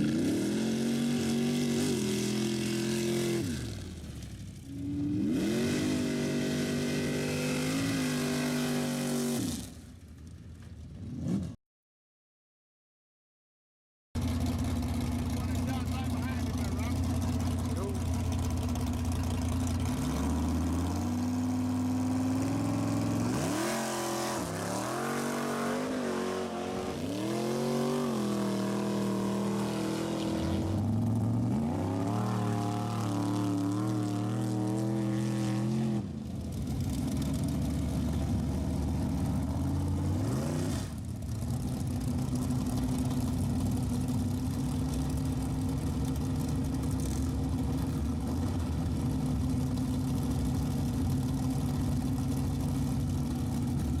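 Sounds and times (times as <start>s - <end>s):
car engine idling and revving: 0.0s - 11.6s, 14.2s - 54.0s.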